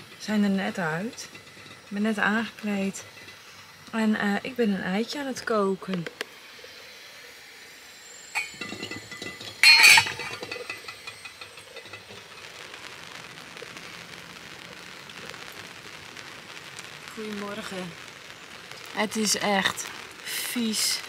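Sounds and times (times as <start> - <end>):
rain pattering: 0.0 - 6.5, 8.5 - 21.0.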